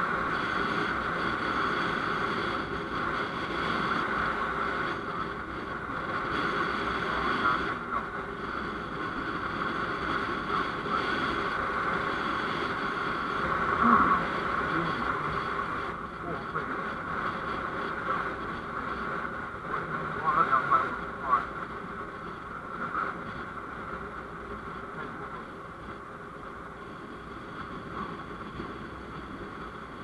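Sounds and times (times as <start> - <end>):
vehicle road and engine noise: 0.0 - 30.0.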